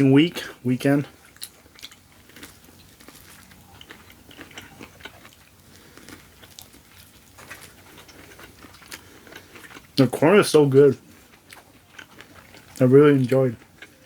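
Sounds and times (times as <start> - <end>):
person chewing corn: 0.0 - 14.0.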